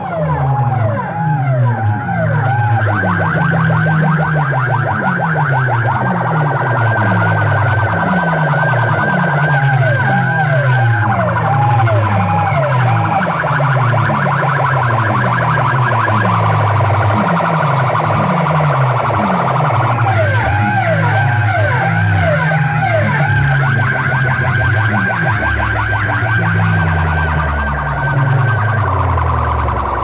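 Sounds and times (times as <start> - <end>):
falling bass sweeps: 0.0 - 30.0
warbling electronic siren tones: 0.0 - 30.0.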